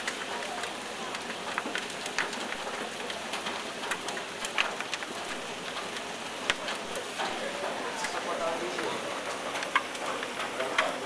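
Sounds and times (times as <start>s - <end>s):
hailstones pelting the ground: 0.0s - 11.0s.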